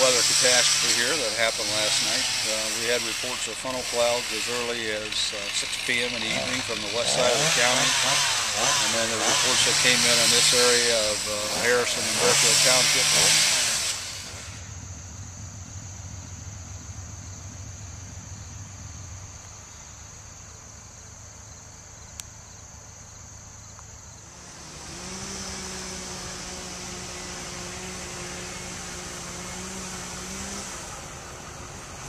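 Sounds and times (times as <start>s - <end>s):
vehicle engine running: 0.0s - 21.2s, 24.2s - 32.0s
insect-like drone: 0.0s - 32.0s.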